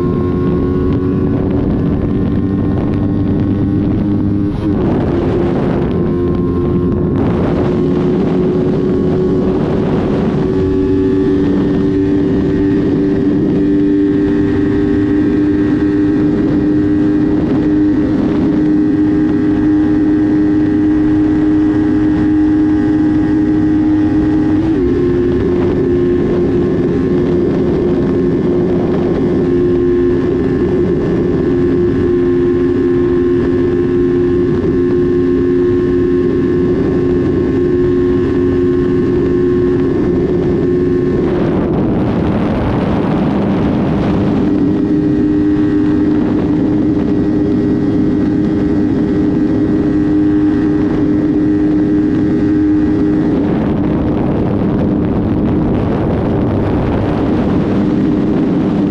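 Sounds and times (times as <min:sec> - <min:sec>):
motorcycle engine running: 0:00.0 - 0:58.9
wind noise on microphone: 0:00.0 - 0:58.9.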